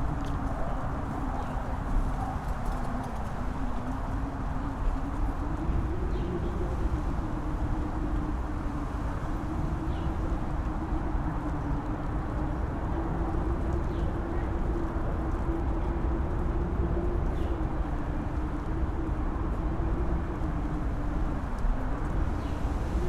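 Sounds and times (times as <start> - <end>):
strong wind howling: 0.0 - 23.0.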